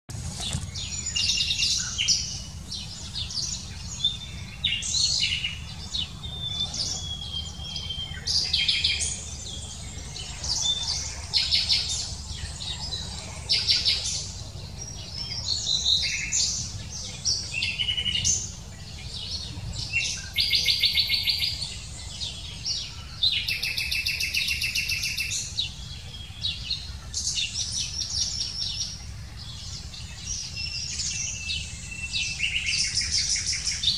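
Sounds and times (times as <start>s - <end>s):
birds chirping and trilling: 0.1s - 33.9s.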